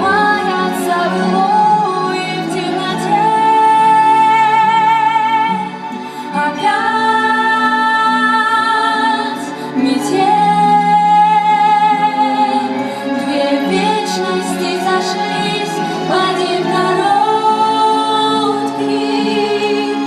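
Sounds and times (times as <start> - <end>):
woman singing slow song: 0.0 - 20.0.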